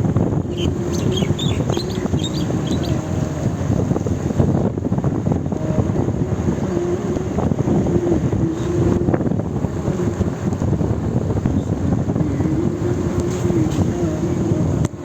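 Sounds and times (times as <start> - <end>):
wind buffeting microphone: 0.0 - 15.0
faint wavering hum: 0.1 - 15.0.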